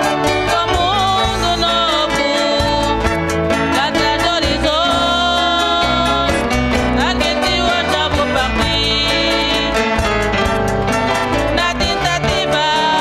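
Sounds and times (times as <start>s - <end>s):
bass line: 0.0s - 13.0s
plucked guitars: 0.0s - 13.0s.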